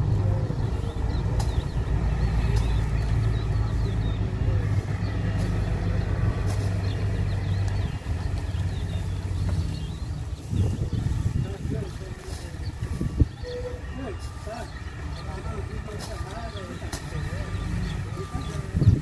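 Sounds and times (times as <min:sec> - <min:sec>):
low engine hum: 0:00.0 - 0:19.0
small birds chirping: 0:00.0 - 0:19.0.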